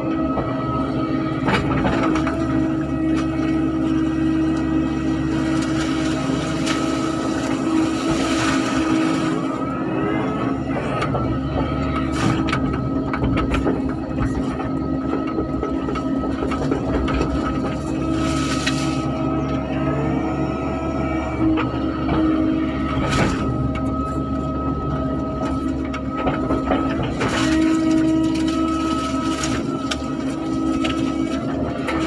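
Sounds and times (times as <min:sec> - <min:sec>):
excavator engine running: 0:00.0 - 0:32.0
rising whine: 0:00.0 - 0:32.0.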